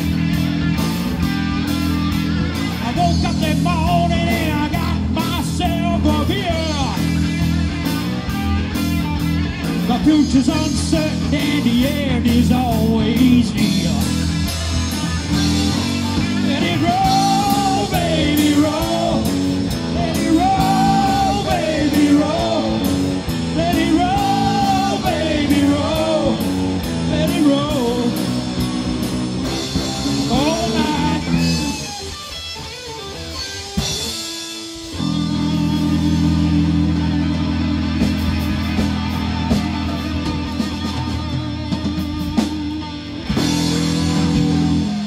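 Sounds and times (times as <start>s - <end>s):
blues-rock band playing: 0.0s - 45.0s.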